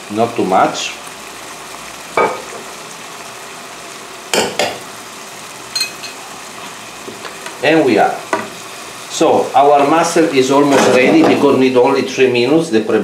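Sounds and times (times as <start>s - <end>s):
food sizzling in pans: 0.0s - 13.0s.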